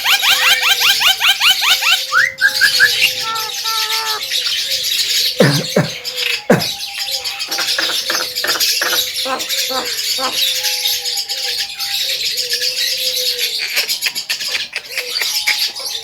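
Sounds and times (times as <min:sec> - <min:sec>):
bird singing: 0:00.0 - 0:16.0.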